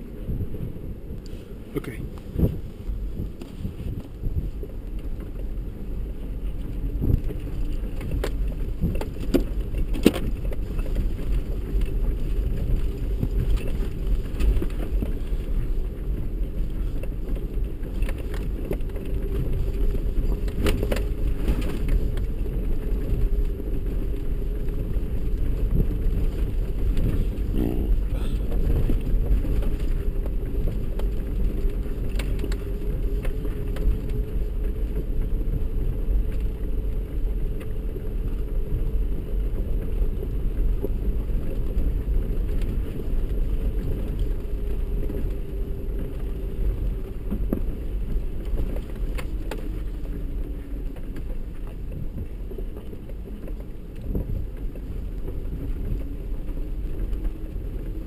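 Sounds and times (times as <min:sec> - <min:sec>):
engine and road rumble: 0:00.0 - 0:58.0
rocks clicking and cab rattles: 0:00.0 - 0:58.0.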